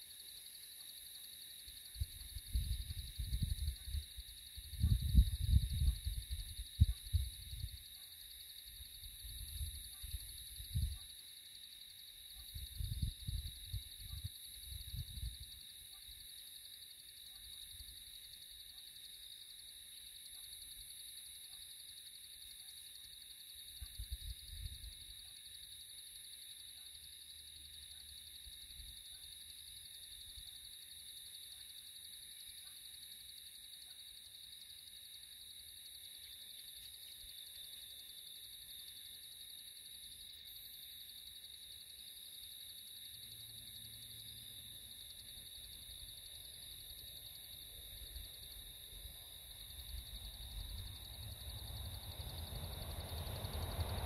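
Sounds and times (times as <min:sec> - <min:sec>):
insect chorus trilling: 0:00.0 - 0:54.0.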